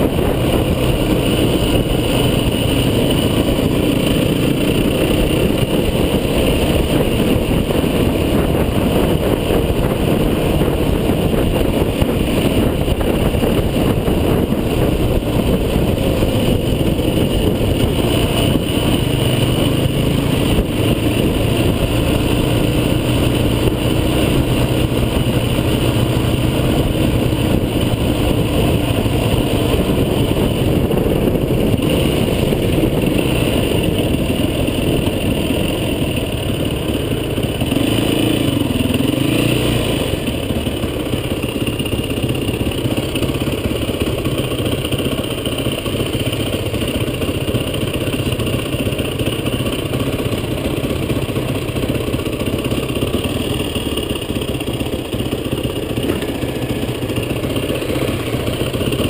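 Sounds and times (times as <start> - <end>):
off-road vehicle engine rumbling: 0.0 - 59.0.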